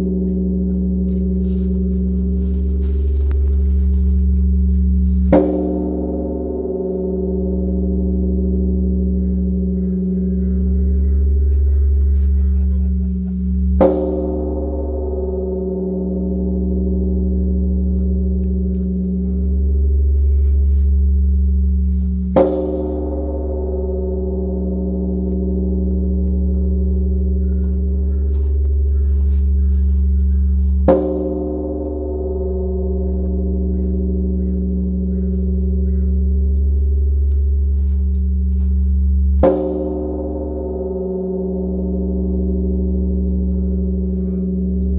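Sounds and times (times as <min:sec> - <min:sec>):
bronze temple bell ringing: 0:00.0 - 0:44.9.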